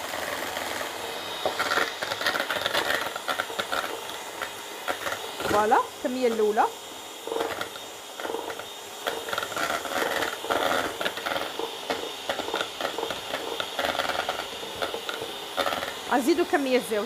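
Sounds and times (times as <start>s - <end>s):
electric hand mixer running: 0.0s - 17.0s.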